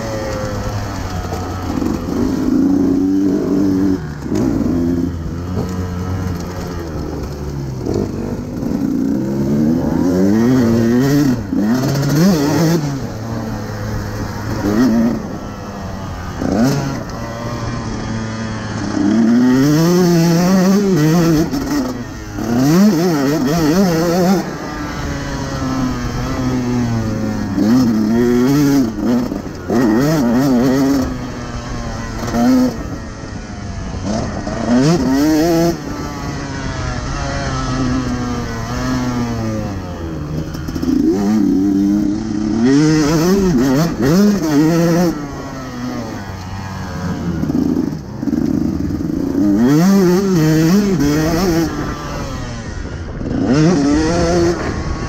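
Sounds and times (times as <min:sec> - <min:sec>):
two-stroke motorbike revving: 0:00.0 - 0:55.0.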